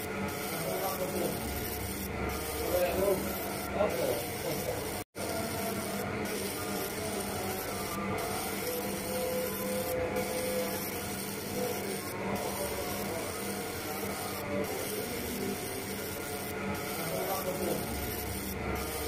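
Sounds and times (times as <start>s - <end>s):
laser engraving machine hiss: 0.0s - 19.0s.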